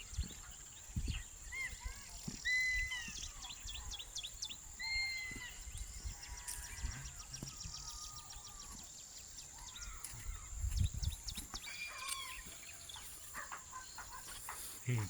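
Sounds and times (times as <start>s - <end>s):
birds chipping: 0.0s - 15.0s.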